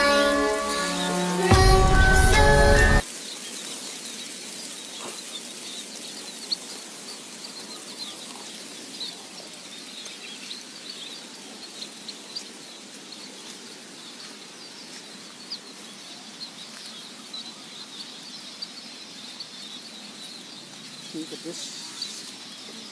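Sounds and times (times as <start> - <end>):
small birds chirping: 0.0 - 22.9
steady outdoor hiss: 0.0 - 22.9.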